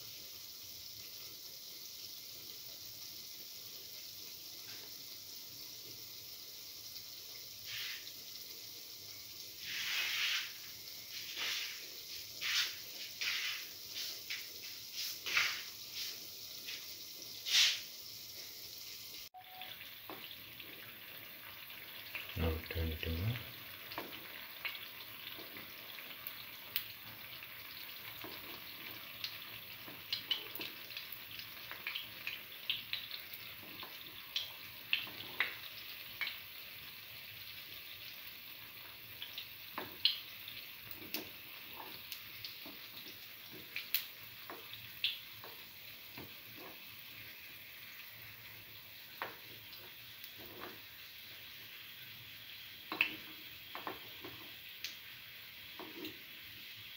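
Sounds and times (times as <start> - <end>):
fritters sizzling in oil: 0.0 - 56.9.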